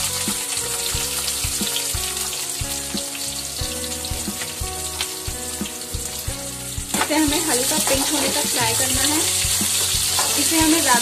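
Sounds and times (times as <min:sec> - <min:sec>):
background music with beat: 0:00.0 - 0:11.0
onions sizzling in oil: 0:00.0 - 0:11.0.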